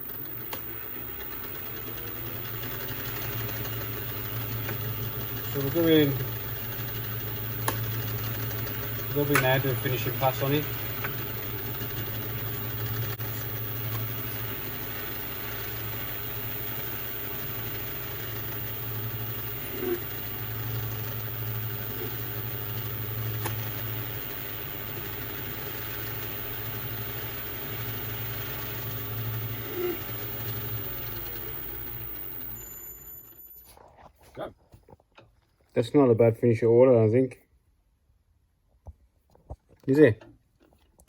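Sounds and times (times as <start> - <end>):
lathe motor running: 0.0 - 33.6.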